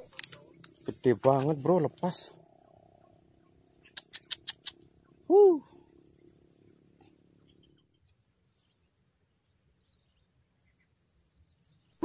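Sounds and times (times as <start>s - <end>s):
faint insect chirps: 0.0s - 12.0s
insects trilling drone: 0.0s - 12.0s.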